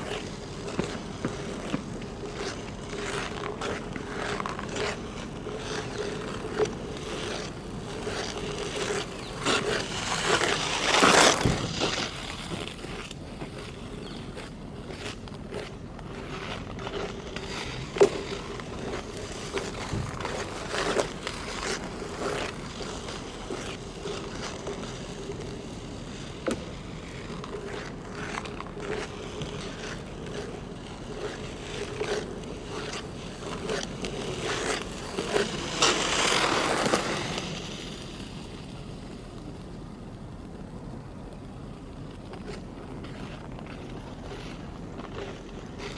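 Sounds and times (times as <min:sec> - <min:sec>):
skate blades cutting ice: 0:00.0 - 0:45.9
skate blades scraping ice: 0:00.0 - 0:45.9.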